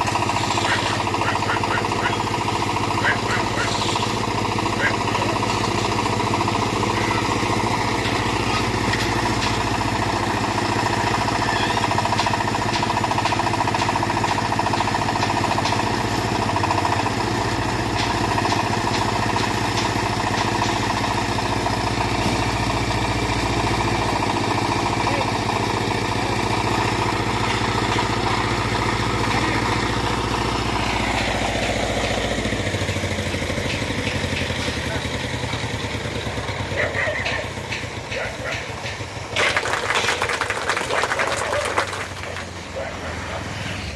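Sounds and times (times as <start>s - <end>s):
backhoe engine running: 0.0s - 43.9s.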